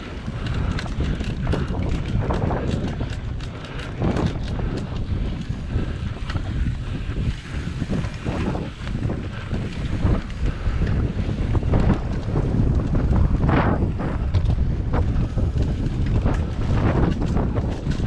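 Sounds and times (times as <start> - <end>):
bike rattling on rough ground: 0.0 - 18.0
wind buffeting microphone: 0.0 - 18.0.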